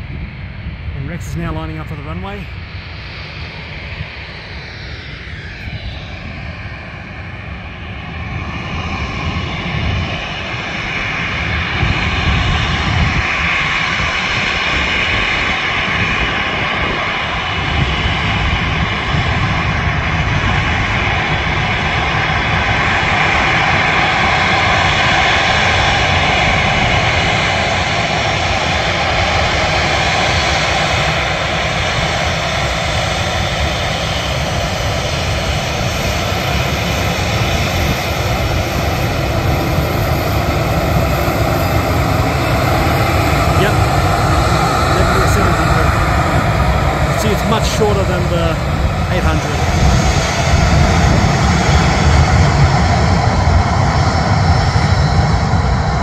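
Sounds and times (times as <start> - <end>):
jet engines rumbling and whining: 0.0 - 56.0.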